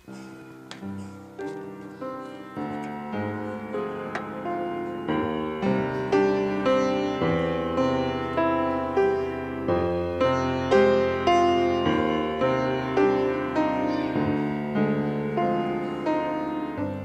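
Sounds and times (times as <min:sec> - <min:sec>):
piano playing hymn chords: 0:00.0 - 0:17.0.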